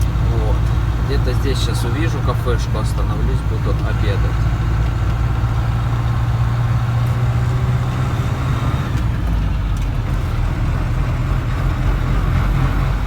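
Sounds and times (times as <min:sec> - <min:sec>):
diesel truck engine hum: 0:00.0 - 0:13.0
road noise: 0:00.0 - 0:13.0.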